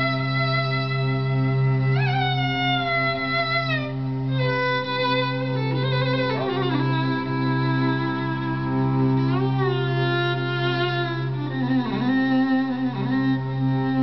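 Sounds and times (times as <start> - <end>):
bowed violin melody: 0.0 - 14.0
steady low drone: 0.0 - 14.0.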